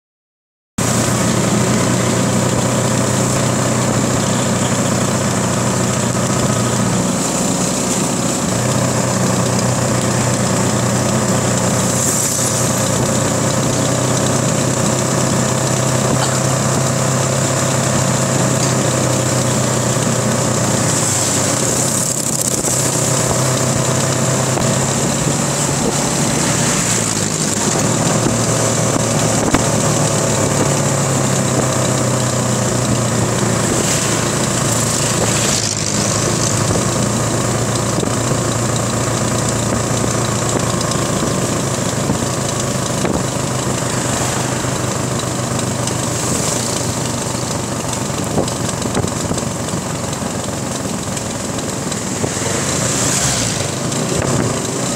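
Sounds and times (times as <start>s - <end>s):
motorcycle engines cruising: 0.8s - 54.9s
wind and road noise: 0.8s - 54.9s.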